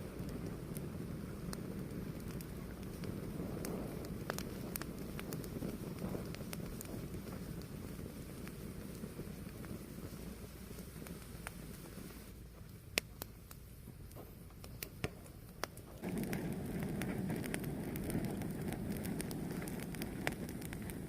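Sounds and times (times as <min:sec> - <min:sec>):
fire crackling and popping: 0:00.0 - 0:21.0
fire rushing: 0:00.0 - 0:21.0.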